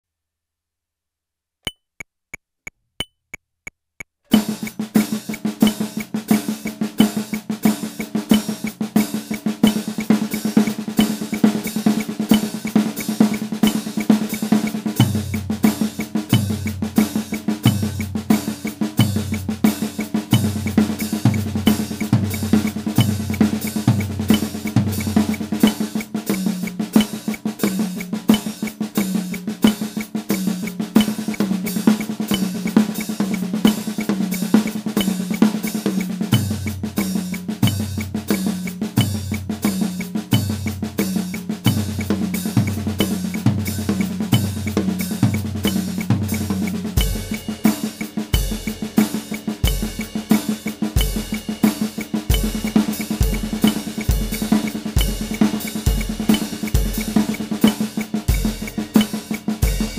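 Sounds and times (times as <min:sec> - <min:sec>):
count-in clicks: 0:01.7 - 0:59.9
drum kit paradiddles: 0:04.3 - 0:59.9.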